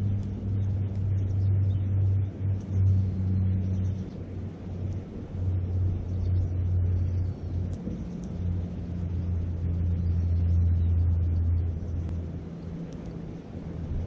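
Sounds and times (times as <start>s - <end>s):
campfire crackling: 0.0s - 14.0s
wind buffeting microphone: 0.0s - 14.0s.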